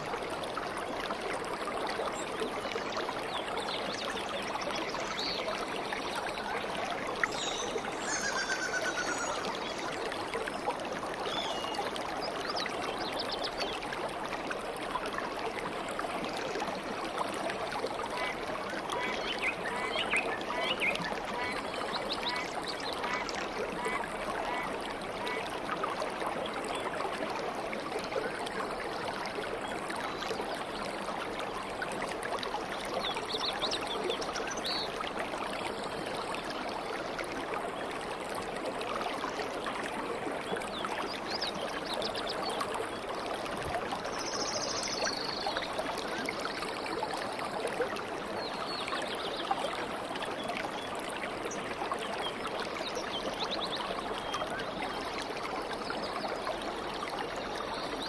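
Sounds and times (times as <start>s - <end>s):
stream of water running: 0.0s - 58.0s.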